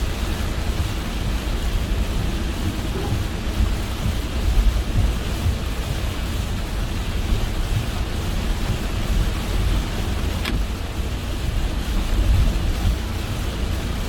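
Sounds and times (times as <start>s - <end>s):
deep low rumble: 0.0s - 14.0s
heavy rain: 0.0s - 14.0s
tyres on wet road: 0.0s - 14.0s.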